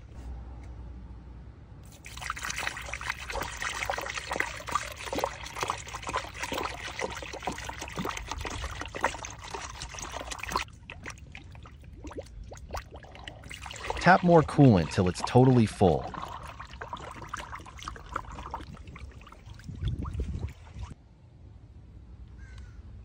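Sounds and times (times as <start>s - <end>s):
liquid pouring: 1.9s - 21.0s.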